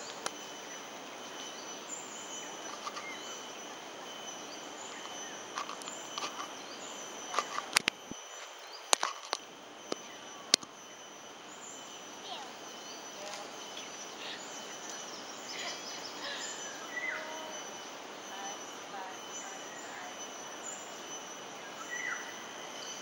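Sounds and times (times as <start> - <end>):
bird chirps: 0.0 - 23.0
insect drone: 0.0 - 23.0.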